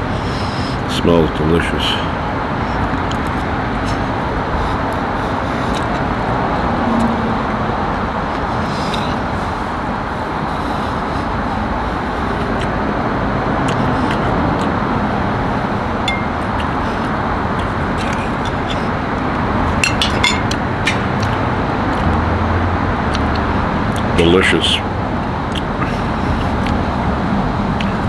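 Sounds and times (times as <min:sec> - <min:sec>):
background traffic noise: 0:00.0 - 0:28.0.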